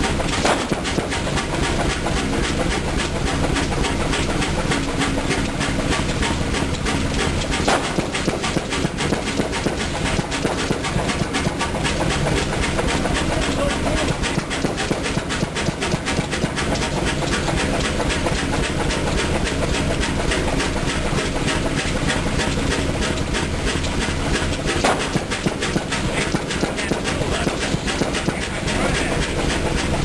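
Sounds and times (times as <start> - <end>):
diesel engine running: 0.0 - 30.0
rapid engine knocking: 0.0 - 30.0.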